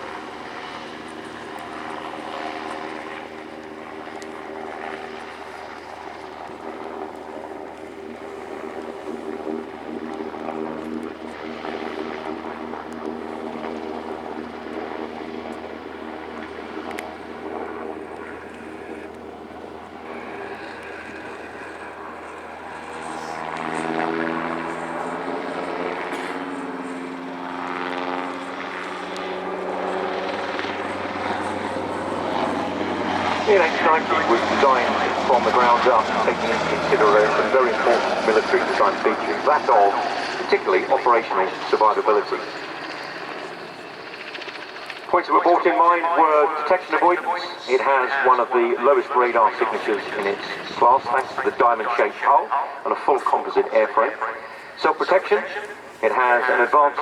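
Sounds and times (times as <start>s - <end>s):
helicopter turbine drone: 0.0s - 57.0s.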